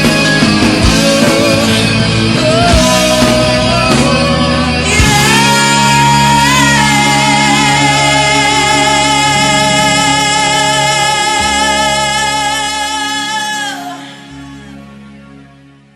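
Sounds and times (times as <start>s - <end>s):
rock band sustained chord: 0.0s - 15.9s.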